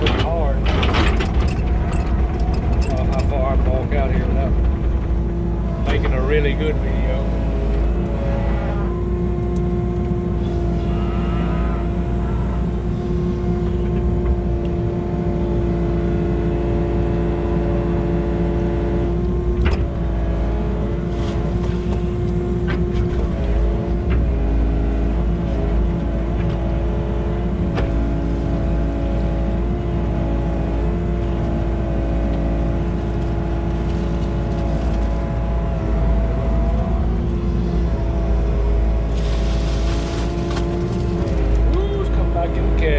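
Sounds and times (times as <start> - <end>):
tractor engine running: 0.0 - 16.0, 19.0 - 42.9.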